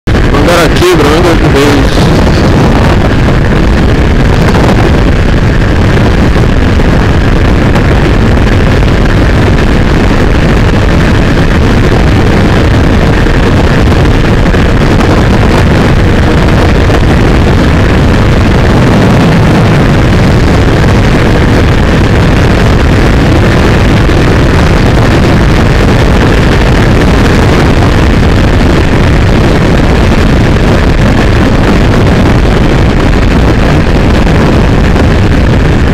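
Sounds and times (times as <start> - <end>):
motorcycle engine drone: 0.0 - 35.9
wind rush on microphone: 0.0 - 35.9.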